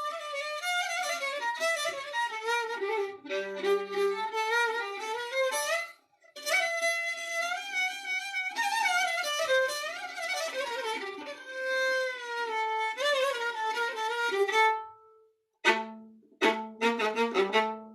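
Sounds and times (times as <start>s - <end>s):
solo violin folk melody: 0.0s - 17.9s.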